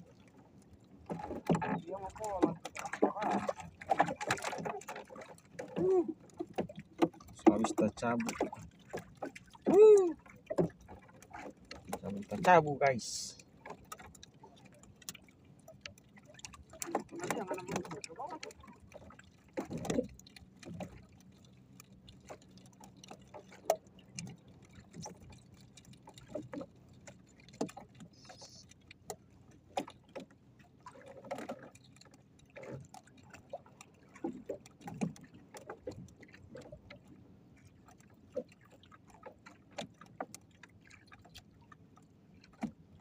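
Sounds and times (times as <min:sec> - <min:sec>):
faint clicks and knocks: 0:00.2 - 0:12.7, 0:13.4 - 0:43.0.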